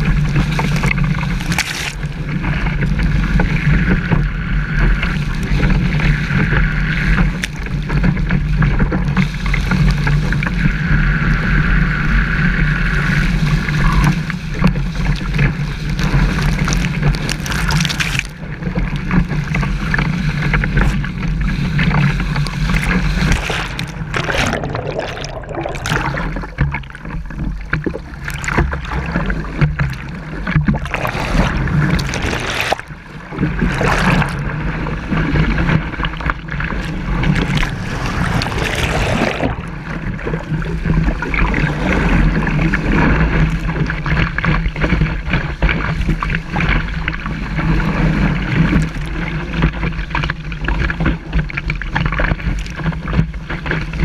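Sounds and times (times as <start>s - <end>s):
rushing water and splashing spray: 0.0s - 54.0s.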